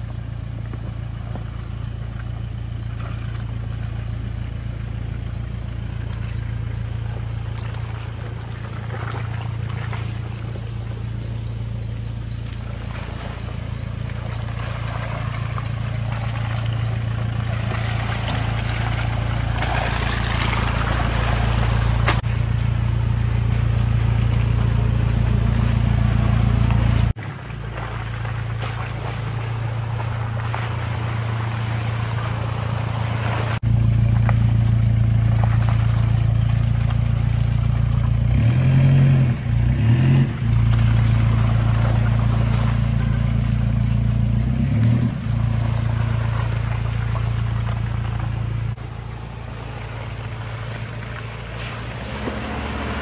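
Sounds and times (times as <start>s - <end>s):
off-road vehicle engine droning: 0.0s - 53.0s.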